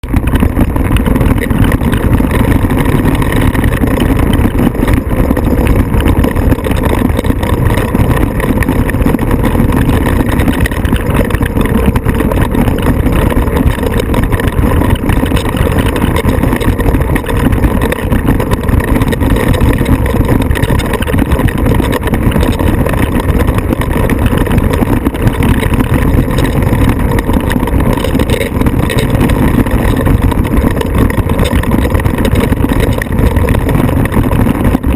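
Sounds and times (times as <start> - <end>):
off-road vehicle engine running: 0.0 - 34.9.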